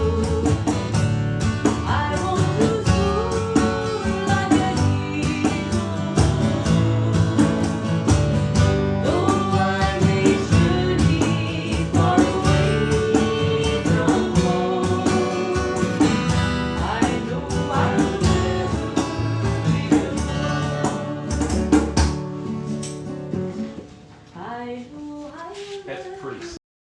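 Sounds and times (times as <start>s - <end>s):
person singing: 0.0s - 0.8s, 1.8s - 8.3s, 9.0s - 21.9s, 24.4s - 26.6s.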